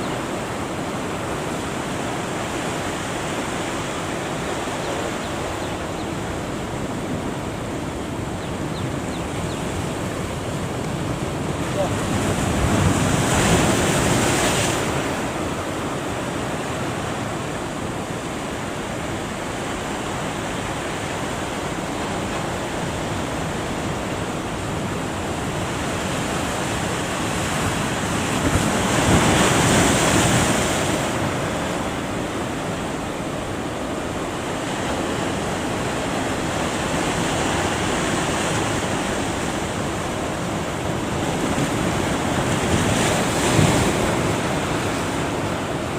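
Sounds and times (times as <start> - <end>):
ocean waves breaking: 0.0 - 45.9.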